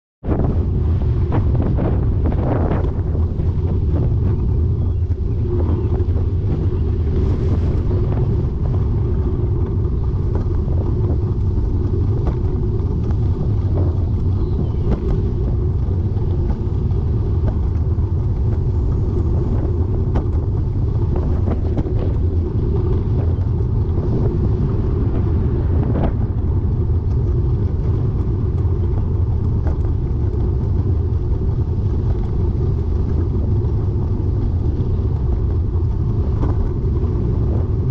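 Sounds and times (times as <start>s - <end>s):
bike rumbling along road: 0.2s - 37.9s.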